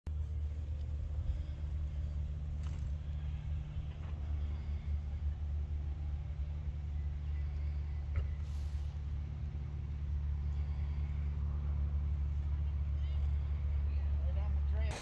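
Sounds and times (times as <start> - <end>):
low rumble of outdoor background: 0.1 - 15.0.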